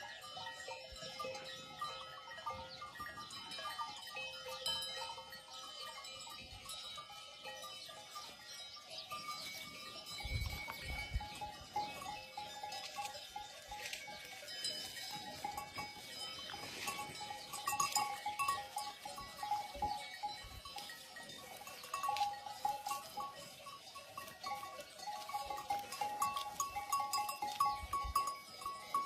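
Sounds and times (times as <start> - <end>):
goat bells clanking: 0.0 - 29.0.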